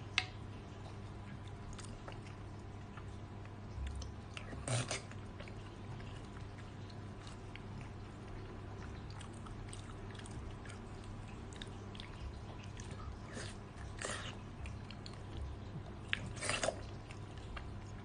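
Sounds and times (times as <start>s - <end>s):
chewing with wet mouth clicks: 0.0s - 18.0s
lip smacking: 0.1s - 18.0s.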